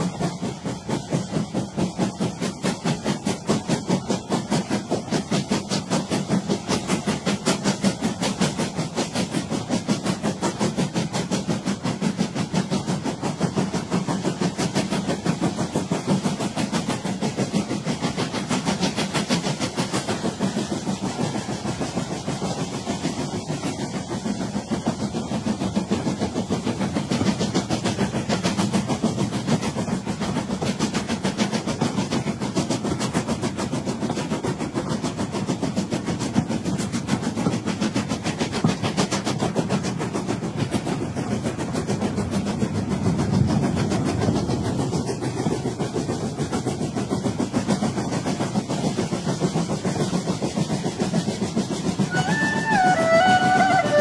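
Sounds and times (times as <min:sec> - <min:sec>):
steam train chuffing: 0:00.0 - 0:54.0.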